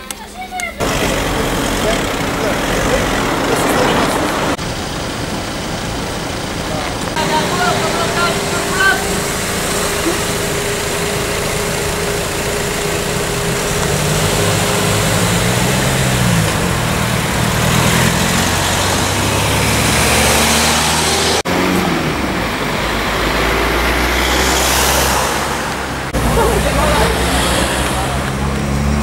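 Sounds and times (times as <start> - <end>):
outdoor background noise: 0.0 - 29.0
cars driving past slowly: 0.8 - 29.0.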